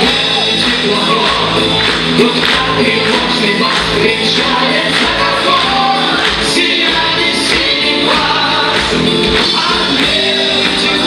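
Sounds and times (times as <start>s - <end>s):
live pop-rock band: 0.0s - 11.0s
voices singing together: 0.1s - 11.0s.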